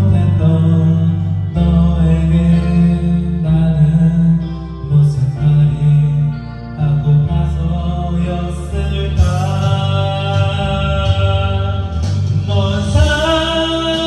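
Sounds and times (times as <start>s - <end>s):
slow chant-like chords: 0.0s - 14.0s.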